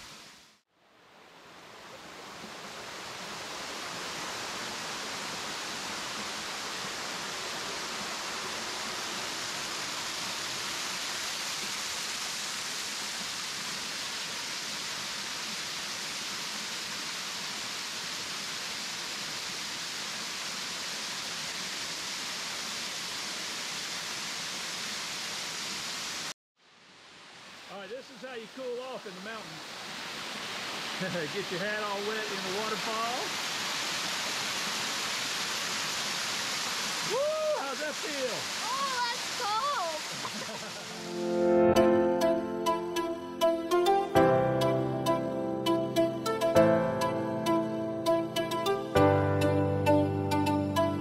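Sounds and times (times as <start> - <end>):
waterfall rushing over rocks: 0.0 - 41.4.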